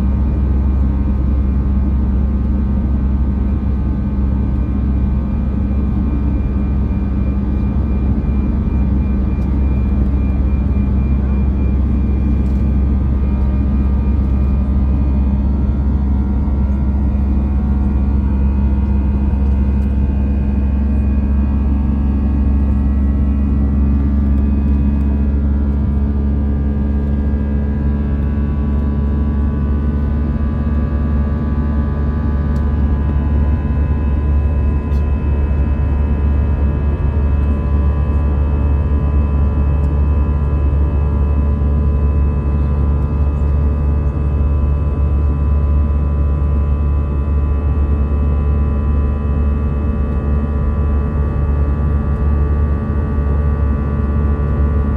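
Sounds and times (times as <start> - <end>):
jet cabin engine rumble: 0.0 - 54.9.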